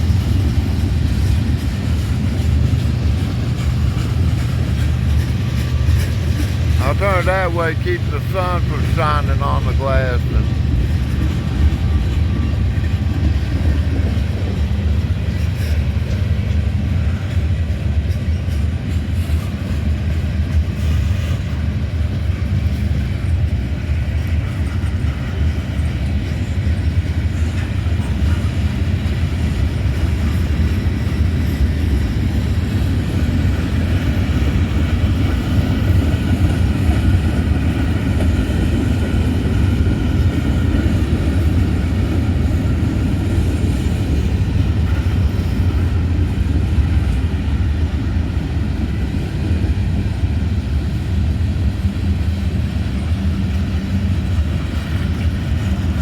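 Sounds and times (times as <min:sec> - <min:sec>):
freight train low drone: 0:00.0 - 0:56.0.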